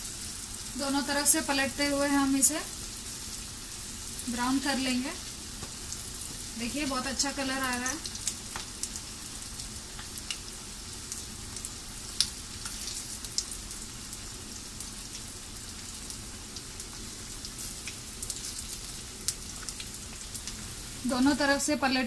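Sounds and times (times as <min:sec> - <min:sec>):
oil sizzling deep-frying: 0:00.0 - 0:22.0.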